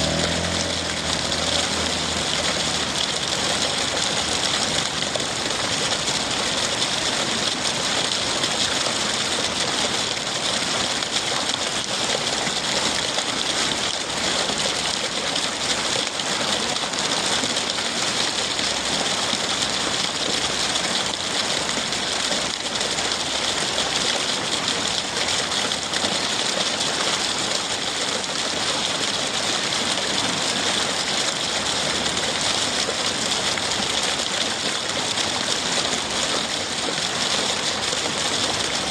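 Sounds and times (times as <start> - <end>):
rain hiss: 0.0 - 38.9
water pouring from gutter: 0.0 - 38.9.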